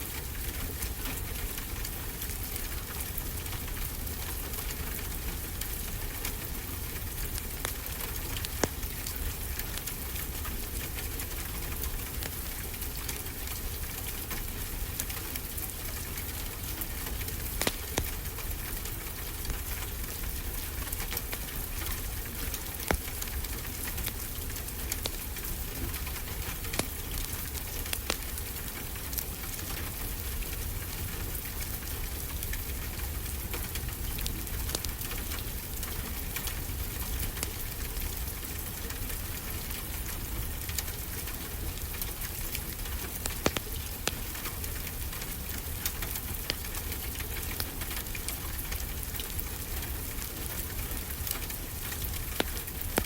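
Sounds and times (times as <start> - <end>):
steady rain falling: 0.0 - 53.0
wood fire crackling: 0.0 - 53.0.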